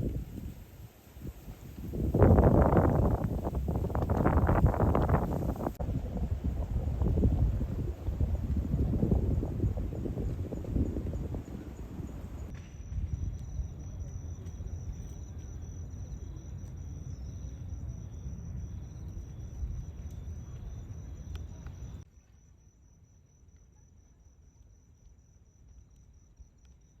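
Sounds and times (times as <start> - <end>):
wind rumble on microphone: 0.0 - 22.0
insect chirping: 0.0 - 27.0.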